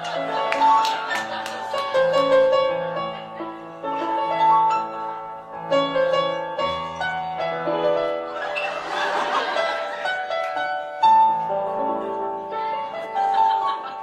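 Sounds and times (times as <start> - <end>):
piano chords and notes: 0.0 - 14.0.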